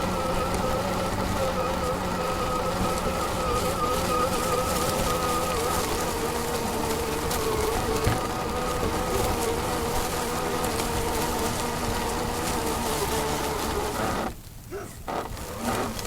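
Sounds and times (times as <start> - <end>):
constant hiss: 0.0 - 16.0
electric motor buzzing whine: 0.0 - 16.0.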